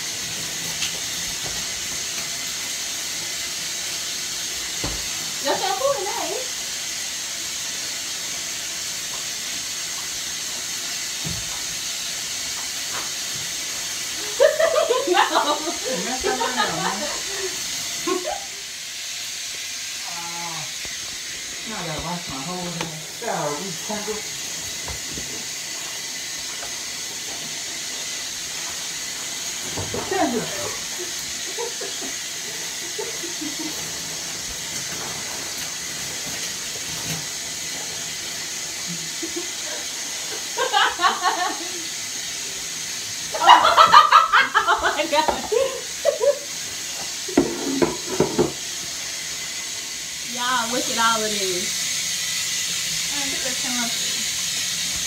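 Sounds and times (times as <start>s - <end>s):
shower water running: 0.0s - 55.0s.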